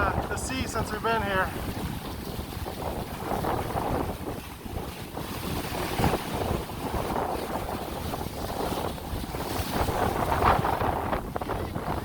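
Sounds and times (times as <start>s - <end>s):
gusty wind buffeting microphone: 0.0s - 12.0s
rough sea surf: 0.0s - 12.0s.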